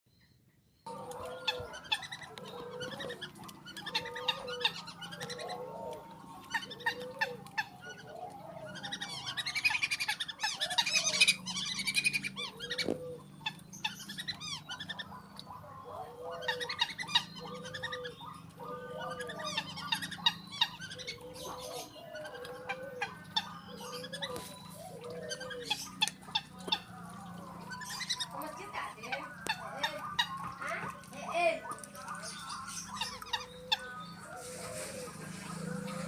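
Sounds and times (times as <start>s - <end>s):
bird low arched calls: 0.2s - 36.0s.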